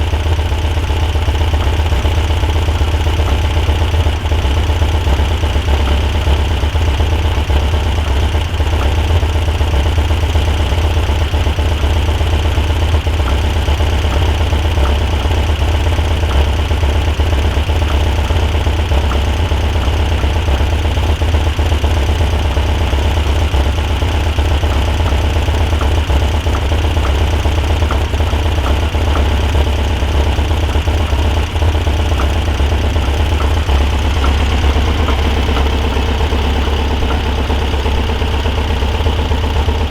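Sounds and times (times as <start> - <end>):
car engine idling: 0.0 - 39.9
light engine ticking: 0.0 - 39.9.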